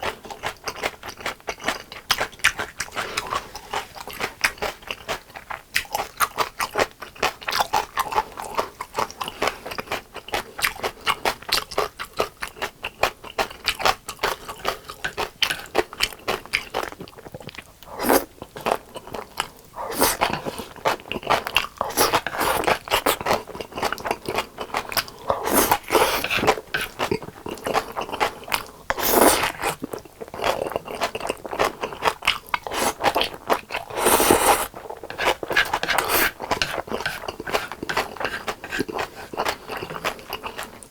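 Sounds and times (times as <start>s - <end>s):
chewing crispy fried chicken: 0.0s - 40.9s.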